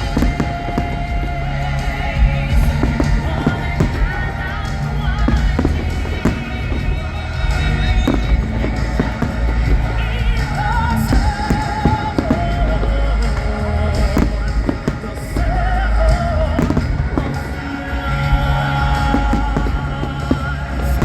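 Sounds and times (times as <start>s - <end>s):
fireworks bangs: 0.0s - 21.0s
show music with sung melody: 0.0s - 21.0s.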